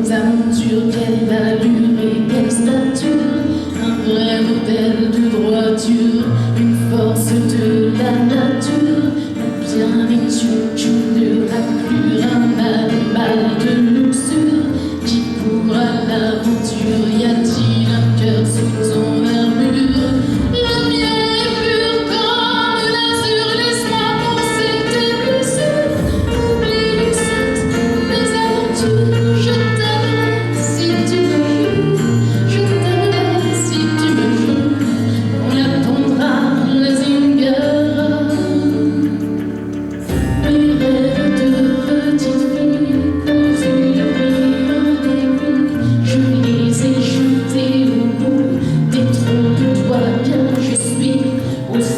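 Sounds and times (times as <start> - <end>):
instrumental backing track: 0.0 - 51.9
woman singing: 0.0 - 51.9.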